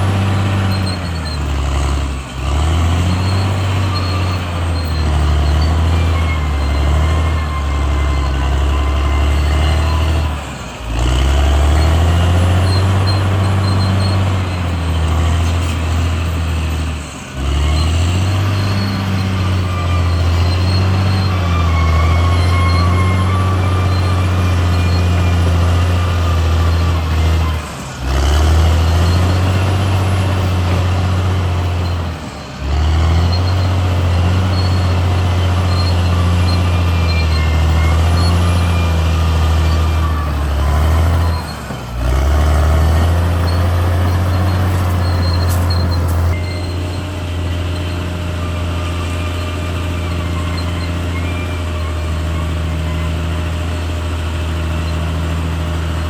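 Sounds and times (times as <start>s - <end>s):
faint high squeal: 0.0s - 55.8s
bulldozer diesel engine under load: 0.0s - 56.0s.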